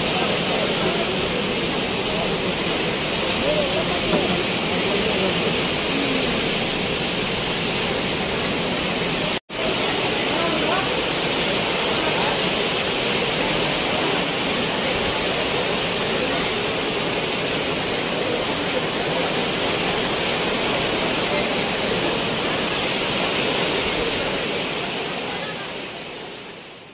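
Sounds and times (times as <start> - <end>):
heavy rain: 0.0 - 26.9.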